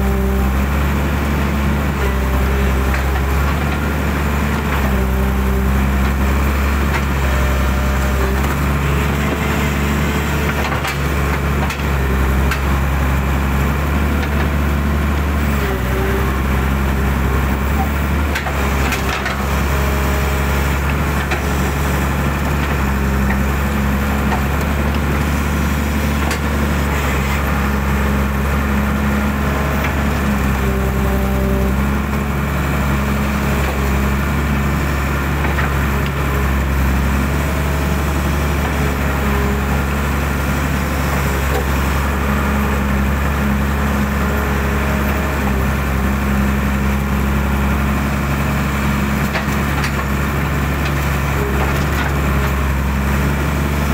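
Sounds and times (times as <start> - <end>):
diesel engine drone: 0.0 - 53.9
hydraulic whine: 0.0 - 53.9.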